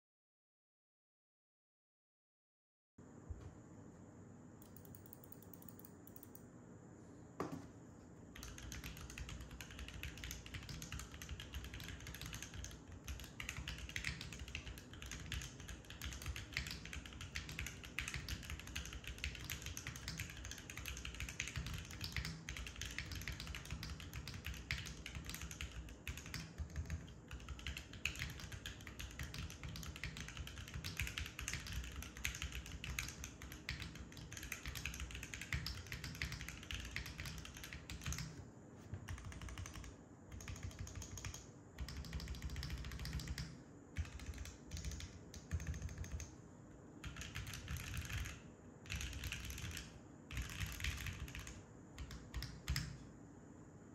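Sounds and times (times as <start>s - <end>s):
keyboard typing: 4.6s - 6.4s, 8.4s - 46.3s, 47.0s - 53.0s.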